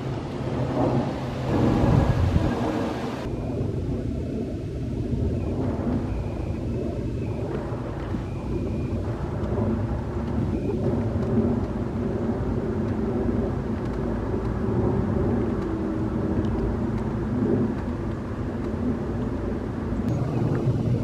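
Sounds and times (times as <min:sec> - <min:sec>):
jet airliner rumbling overhead: 0:00.0 - 0:21.0.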